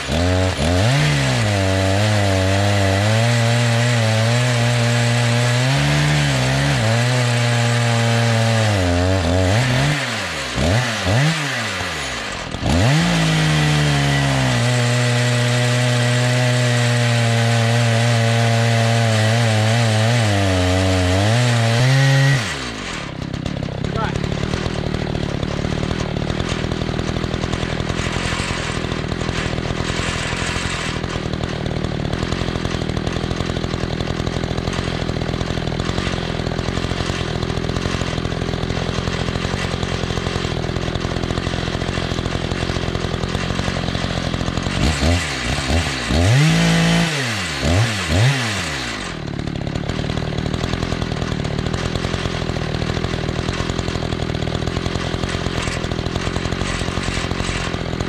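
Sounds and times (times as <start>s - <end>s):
chainsaw cutting a log: 0.0s - 58.0s.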